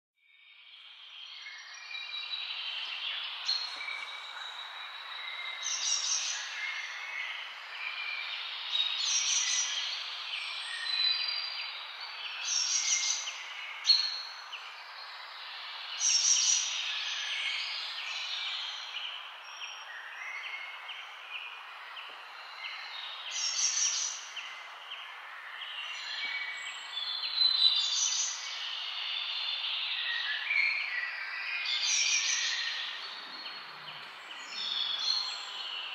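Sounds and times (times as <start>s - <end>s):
songbirds chirping and singing: 0.3s - 35.9s.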